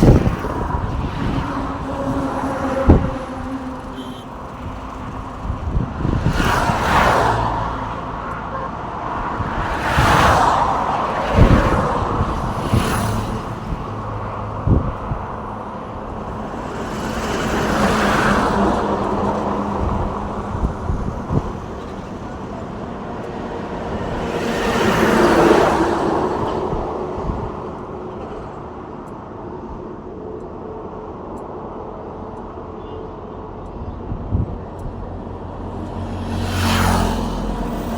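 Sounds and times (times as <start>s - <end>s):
cars and trucks passing: 0.0s - 37.9s
traffic hum: 0.0s - 37.9s.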